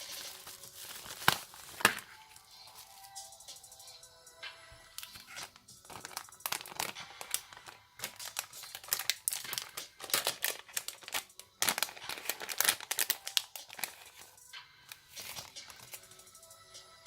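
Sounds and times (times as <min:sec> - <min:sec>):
packaging crinkling and rustling: 0:00.0 - 0:03.2, 0:05.0 - 0:14.4, 0:15.0 - 0:16.1.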